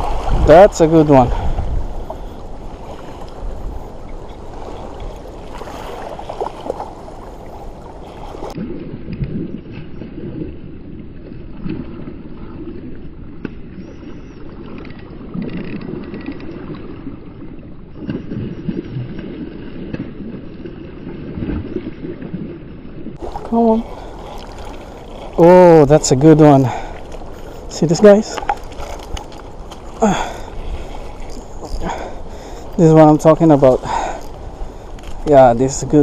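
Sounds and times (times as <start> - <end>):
water sloshing and gurgling: 0.0 - 36.0.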